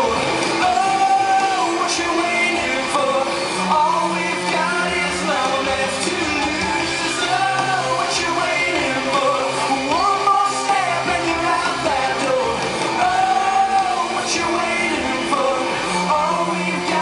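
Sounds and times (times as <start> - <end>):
live rock band in an arena: 0.0 - 17.0.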